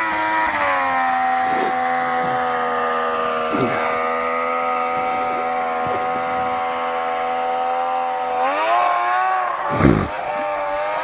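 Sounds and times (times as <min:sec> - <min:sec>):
snowmobile engine revving: 0:00.0 - 0:11.0
snowmobile passing by: 0:00.0 - 0:11.0.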